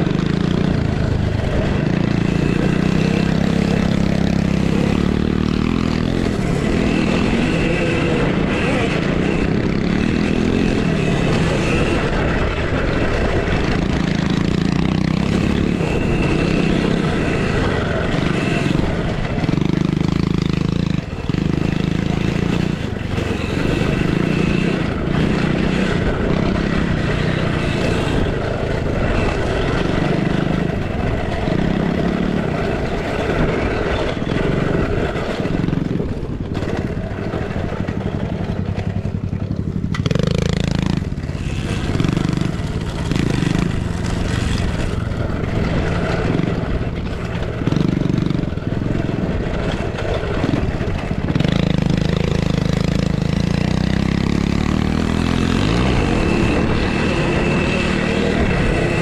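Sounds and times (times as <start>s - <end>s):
motocross bikes racing: 0.0s - 59.0s.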